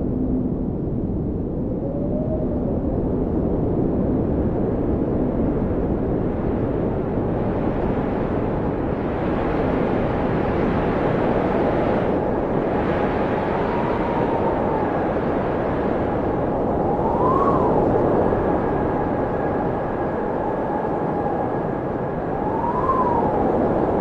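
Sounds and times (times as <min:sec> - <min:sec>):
blizzard wind blowing: 0:00.0 - 0:24.0
whistling howl of wind: 0:00.0 - 0:24.0.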